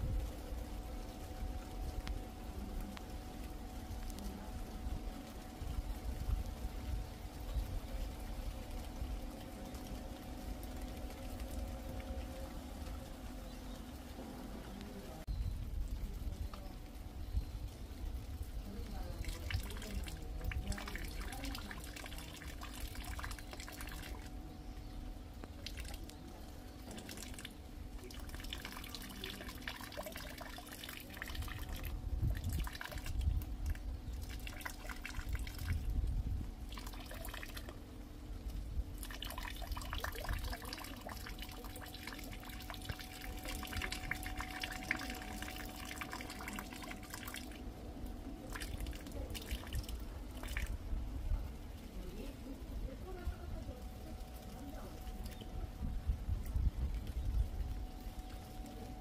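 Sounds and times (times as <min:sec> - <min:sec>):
faint steady hum: 0:00.0 - 0:59.0
rain dripping: 0:00.0 - 0:59.0
rainwater trickling: 0:00.0 - 0:59.0.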